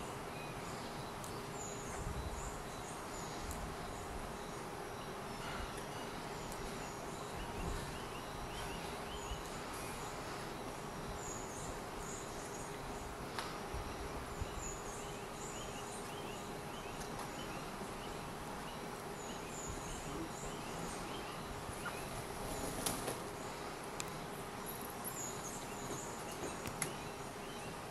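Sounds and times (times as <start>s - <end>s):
insects humming: 0.0s - 27.9s.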